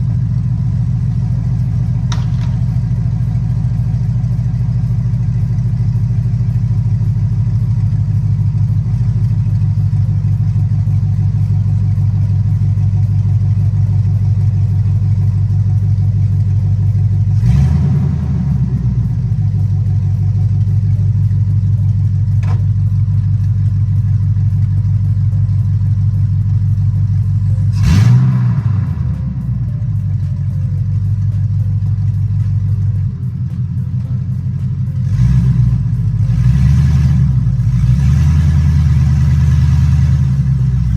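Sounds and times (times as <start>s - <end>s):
loud car engine idling and revving: 0.0s - 40.9s.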